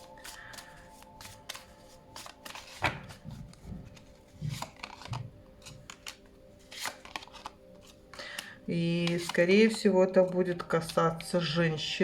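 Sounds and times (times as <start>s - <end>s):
cards shuffling: 0.0s - 11.0s.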